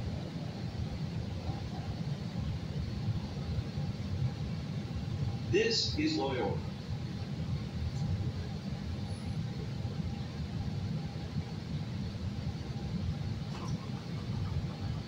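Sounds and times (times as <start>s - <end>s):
faint steady hum: 0.0s - 15.0s
train car rumble: 0.0s - 15.0s.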